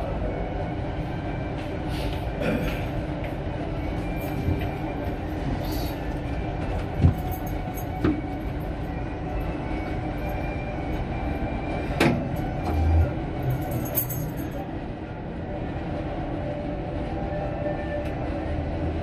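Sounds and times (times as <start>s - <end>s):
elevator rumbling: 0.0s - 19.0s.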